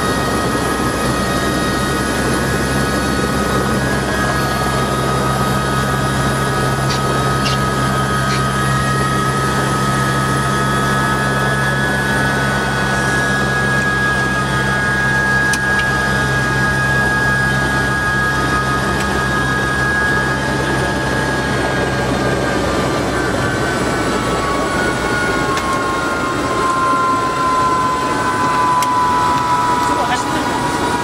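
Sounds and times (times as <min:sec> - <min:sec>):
helicopter rotor drone: 0:00.0 - 0:31.0
helicopter turbine whine: 0:00.0 - 0:31.0.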